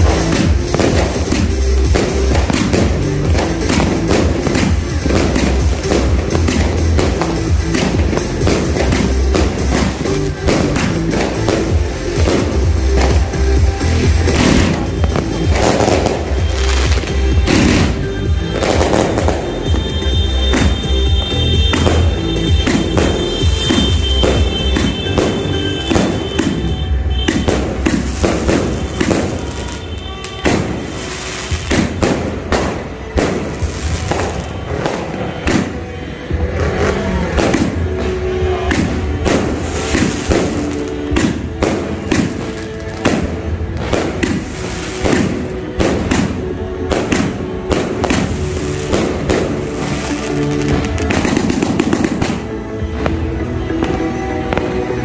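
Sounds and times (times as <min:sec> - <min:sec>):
background music: 0:00.0 - 0:55.0
fireworks shots and aerial bursts: 0:00.0 - 0:55.0.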